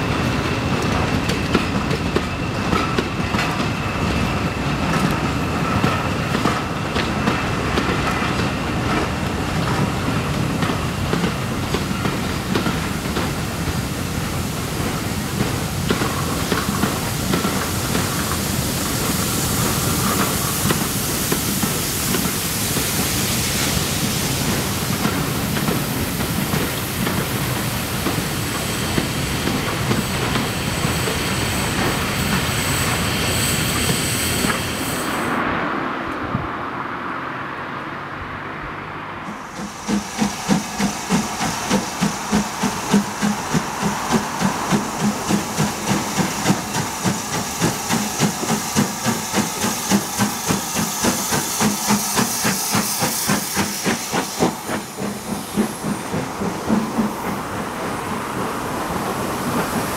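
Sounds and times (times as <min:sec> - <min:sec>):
steam locomotive chuffing: 0:00.0 - 0:35.3, 0:39.3 - 0:59.9
steam locomotive hissing: 0:00.0 - 0:35.8, 0:39.3 - 0:59.9.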